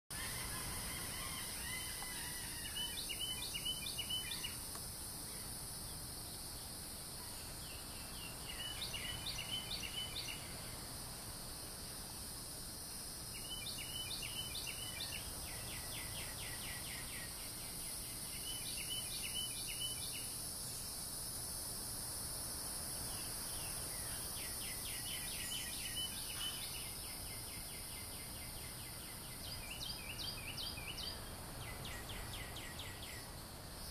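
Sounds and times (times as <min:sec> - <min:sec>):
songbird singing: 0:00.1 - 0:11.1, 0:13.2 - 0:21.1, 0:23.0 - 0:33.9
background hiss: 0:00.1 - 0:33.9.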